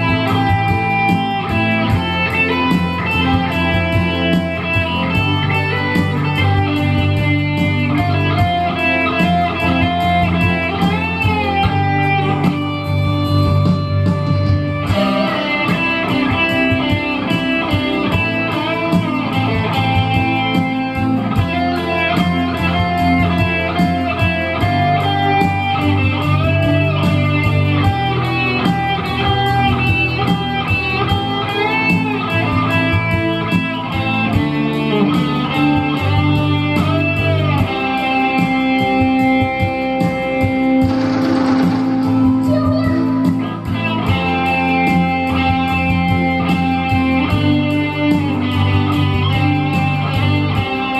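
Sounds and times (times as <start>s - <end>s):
bass line: 0.0s - 50.9s
guitar melody with bent notes: 0.0s - 50.9s
steady beat: 0.0s - 50.9s.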